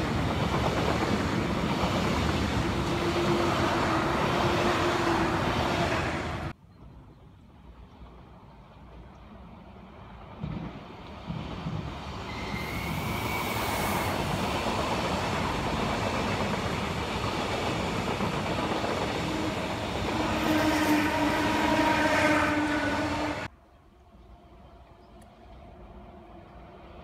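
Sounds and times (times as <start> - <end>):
train passing with loud rush: 0.0 - 27.0.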